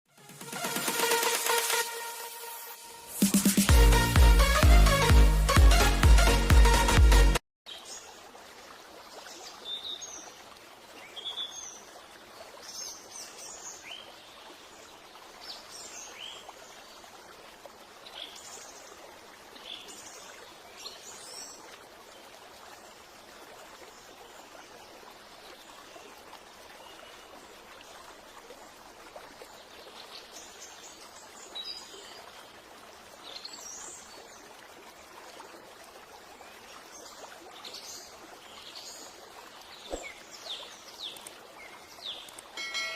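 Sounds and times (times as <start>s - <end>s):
running water: 0.2s - 42.9s.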